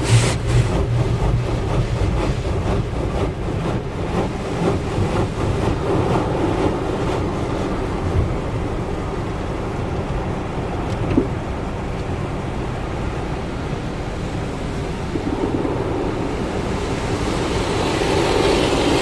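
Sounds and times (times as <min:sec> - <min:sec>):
car wash brushes and water rushing: 0:00.0 - 0:19.0.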